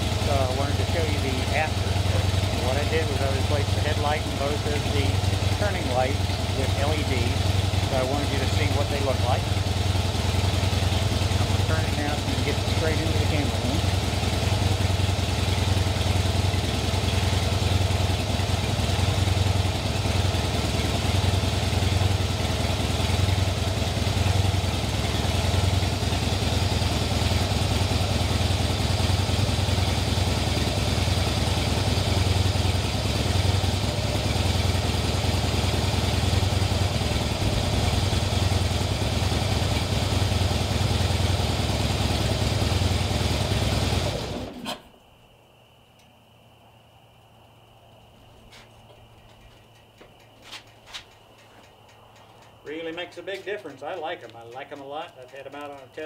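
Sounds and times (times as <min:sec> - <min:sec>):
motorcycle engine idling: 0:00.0 - 0:45.0, 0:47.4 - 0:56.0.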